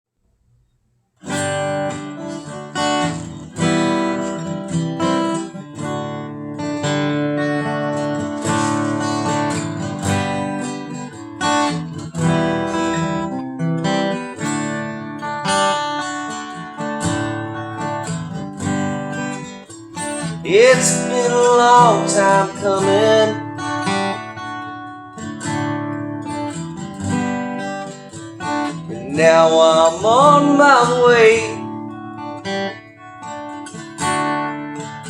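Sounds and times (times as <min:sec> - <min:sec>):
acoustic guitar strumming: 0:01.2 - 0:35.0.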